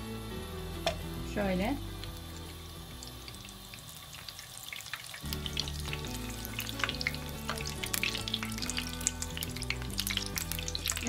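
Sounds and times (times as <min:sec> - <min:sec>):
butter sizzling in a frying pan: 0:00.0 - 0:11.0.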